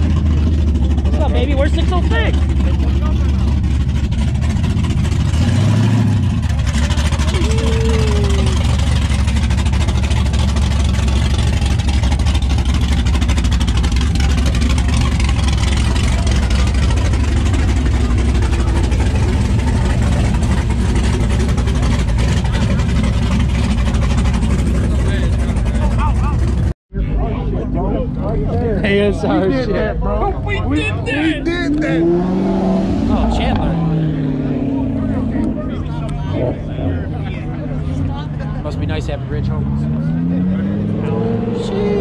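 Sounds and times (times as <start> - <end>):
car engines idling: 0.0 - 42.0.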